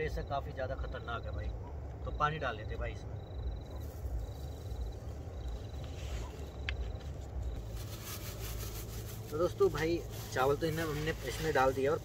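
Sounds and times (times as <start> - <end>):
steady low rumble: 0.0 - 12.0
insect trilling: 0.1 - 9.9.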